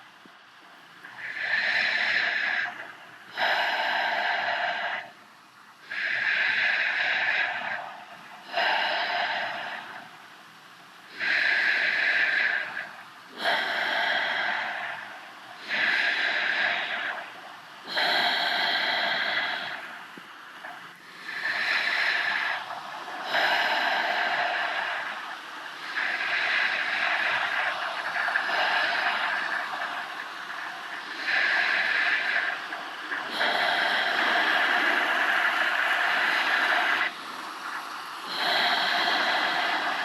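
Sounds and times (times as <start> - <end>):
person breathing slowly and loudly: 0.0 - 40.0.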